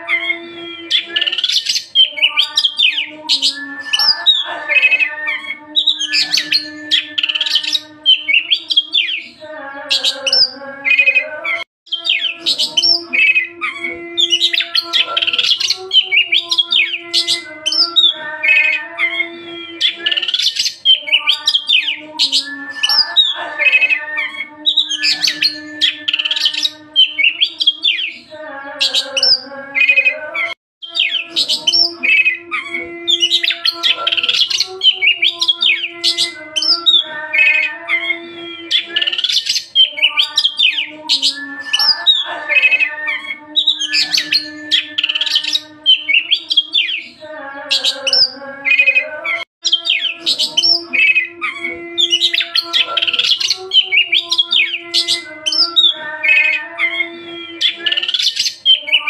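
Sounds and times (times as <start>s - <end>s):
songbird chirping and trilling: 0.0s - 59.0s.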